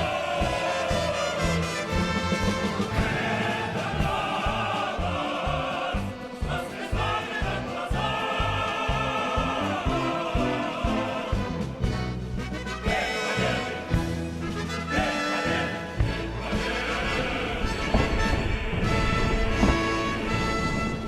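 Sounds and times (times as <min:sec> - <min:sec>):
choir singing: 0:00.0 - 0:21.0
low thumps: 0:00.0 - 0:21.0
orchestral music: 0:00.0 - 0:21.0.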